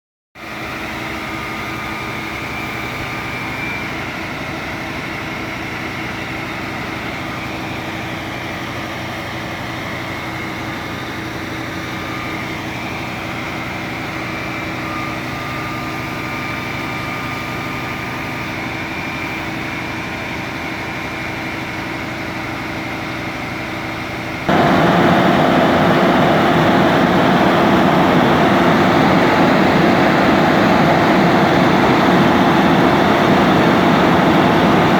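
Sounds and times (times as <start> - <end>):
engine running: 0.4 - 34.9.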